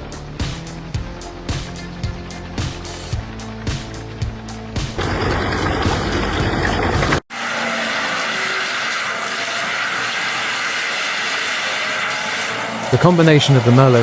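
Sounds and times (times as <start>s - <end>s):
steady machine noise: 0.2s - 14.0s
heavy machinery engine and cutting: 1.2s - 14.0s.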